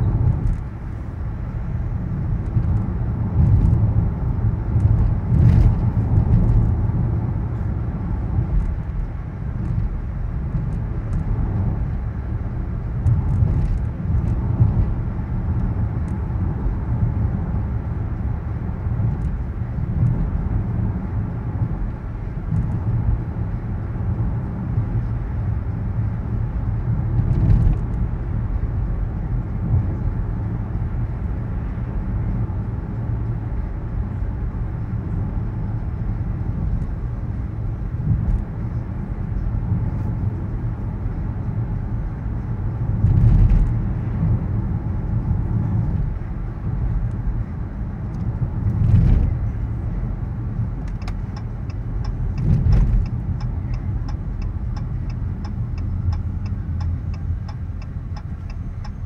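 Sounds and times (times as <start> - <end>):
road and tyre noise in car: 0.0 - 59.0
vehicles passing by: 0.0 - 59.0.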